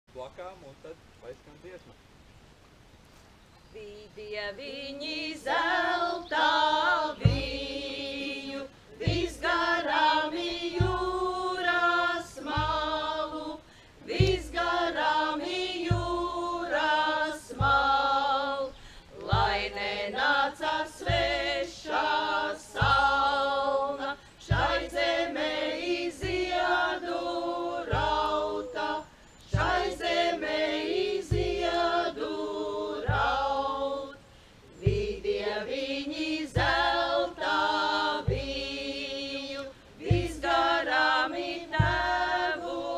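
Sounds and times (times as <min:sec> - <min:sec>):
women singing unaccompanied: 0:03.7 - 0:42.9.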